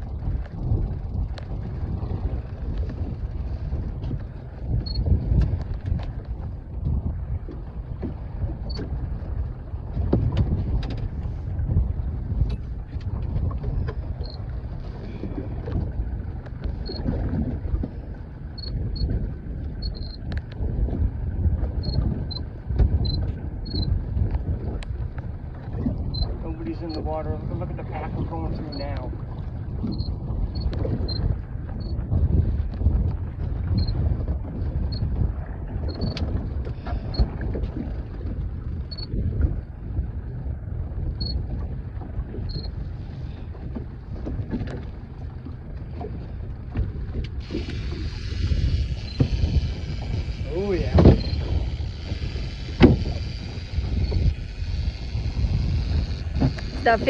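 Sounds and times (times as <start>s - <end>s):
water noise: 0.0s - 57.0s
wind buffeting microphone: 0.0s - 57.0s.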